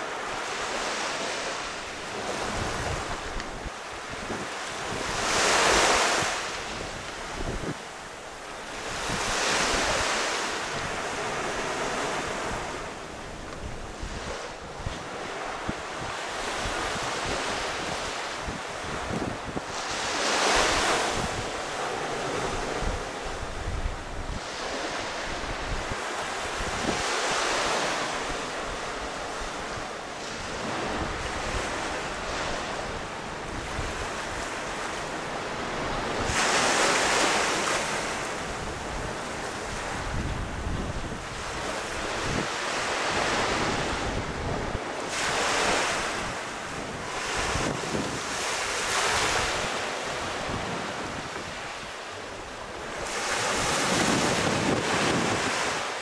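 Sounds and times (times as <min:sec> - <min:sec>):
small waves washing onto beach: 0:00.0 - 0:56.0
wind buffeting microphone: 0:00.0 - 0:56.0.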